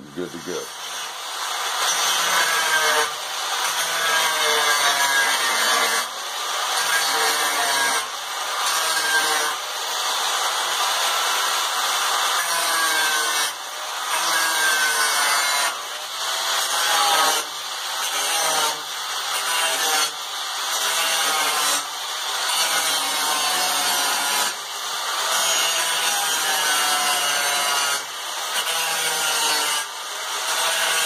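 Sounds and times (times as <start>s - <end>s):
angle grinder cutting steel: 0.0s - 31.0s.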